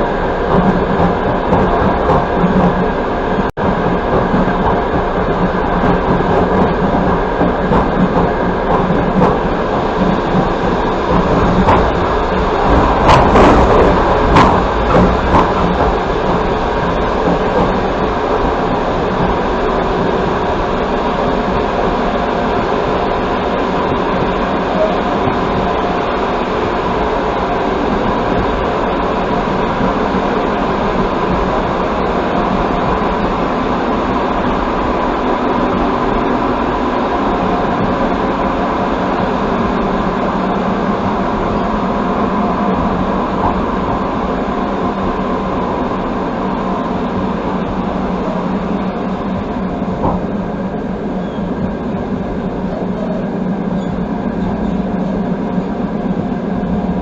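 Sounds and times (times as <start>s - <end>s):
constant hum: 0.0s - 57.0s
train wheels rumbling on rails: 0.0s - 57.0s.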